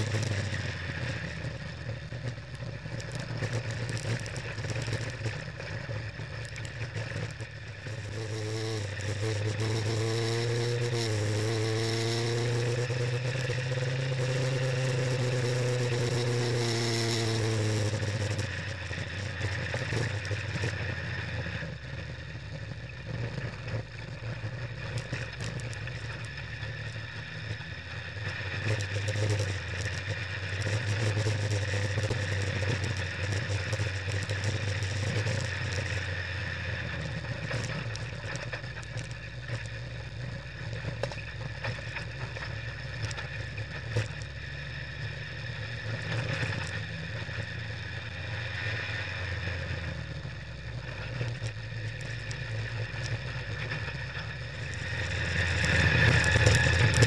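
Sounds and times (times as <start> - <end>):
gravel noise: 0.0 - 57.0
race car engine from cockpit: 0.0 - 57.0.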